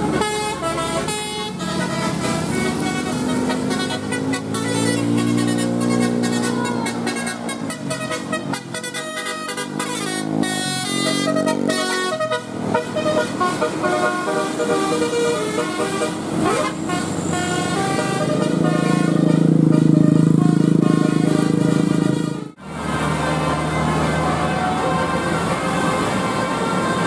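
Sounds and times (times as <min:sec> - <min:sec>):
musical air horn playing tune: 0:00.0 - 0:22.6.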